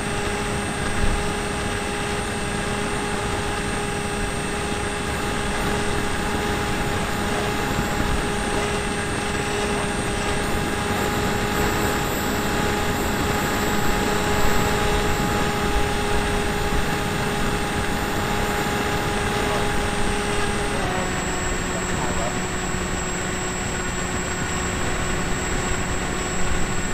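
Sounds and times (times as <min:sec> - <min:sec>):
model plane motor whine: 0:00.0 - 0:26.9.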